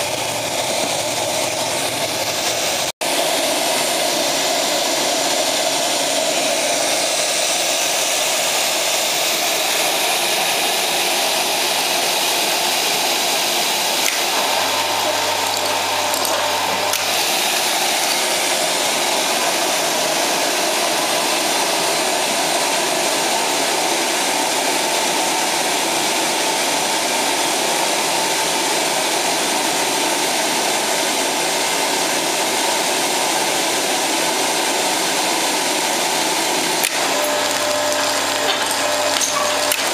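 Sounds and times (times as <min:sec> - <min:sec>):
pellet burner fan blowing: 0:00.0 - 0:39.9.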